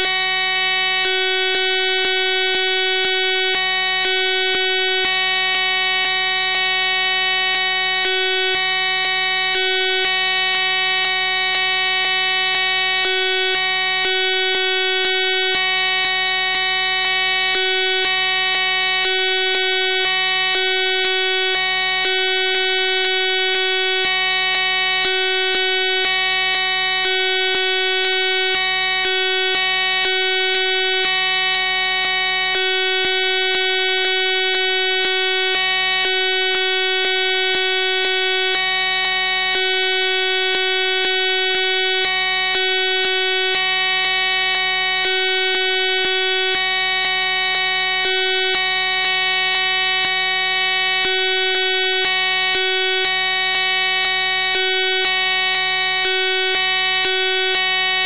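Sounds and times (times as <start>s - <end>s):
electronic buzz: 0.0s - 55.6s.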